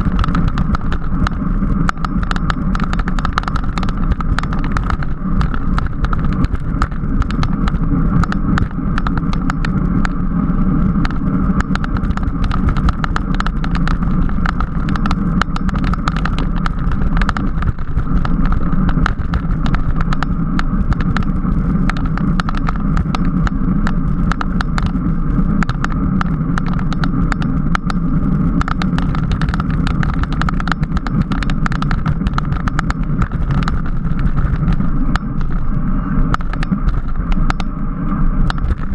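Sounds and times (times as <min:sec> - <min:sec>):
small rattling clicks: 0:00.0 - 0:10.2, 0:11.0 - 0:35.7, 0:36.3 - 0:37.8
bicycle road noise: 0:00.0 - 0:38.9
wind rush: 0:00.0 - 0:38.9.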